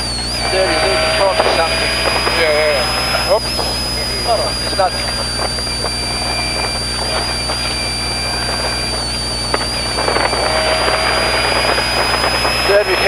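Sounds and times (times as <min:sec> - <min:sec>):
engine and road drone: 0:00.0 - 0:13.0
thin high whine: 0:00.0 - 0:13.0.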